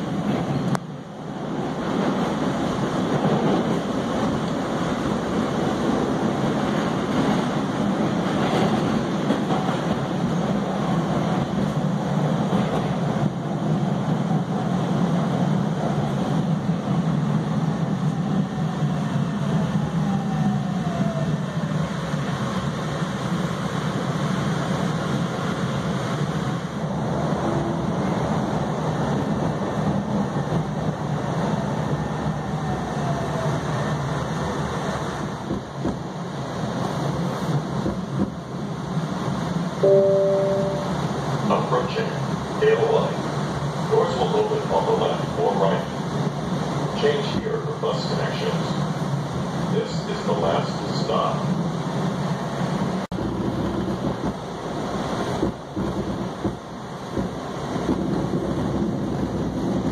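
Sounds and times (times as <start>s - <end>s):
subway wheels rumbling on rails: 0.0s - 59.9s.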